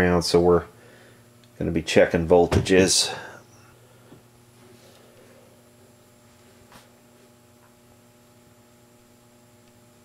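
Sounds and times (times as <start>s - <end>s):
faint electrical mains hum: 0.0s - 10.0s.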